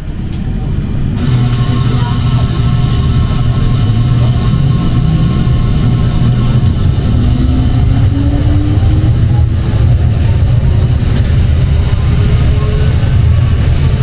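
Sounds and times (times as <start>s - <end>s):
faint rising whine: 0.0s - 14.0s
tram rumbling along rails: 0.0s - 14.0s.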